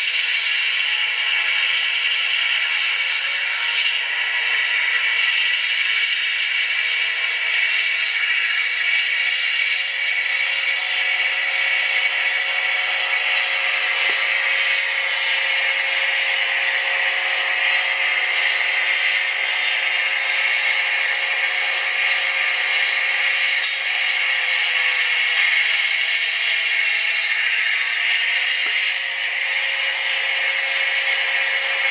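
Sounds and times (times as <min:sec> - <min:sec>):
diesel locomotive engine through small speaker: 0:00.0 - 0:31.9.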